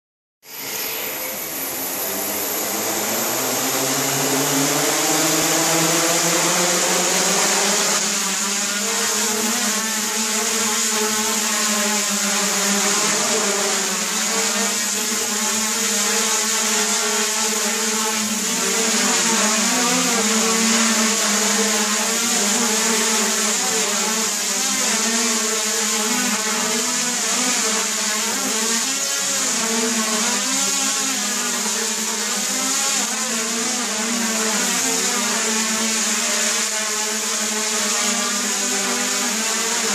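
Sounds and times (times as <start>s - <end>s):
drone motors whirring: 0.5s - 39.9s.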